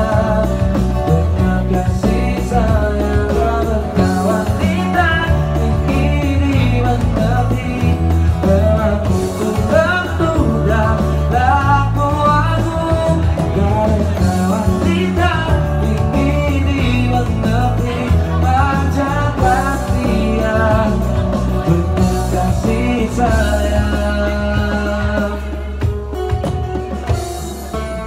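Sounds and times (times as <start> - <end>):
live pop rock band: 0.0 - 28.0
man singing: 0.0 - 28.0.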